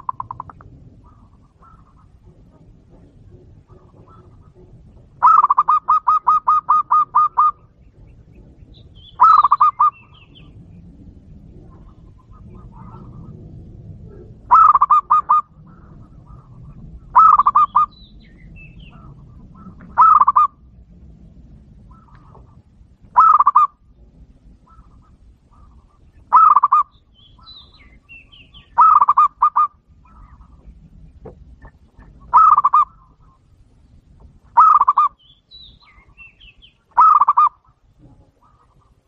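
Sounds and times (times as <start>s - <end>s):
dove cooing: 0.0s - 7.8s, 9.1s - 10.6s, 11.4s - 20.8s, 21.8s - 31.0s, 31.6s - 33.5s, 34.4s - 35.2s, 35.8s - 39.0s.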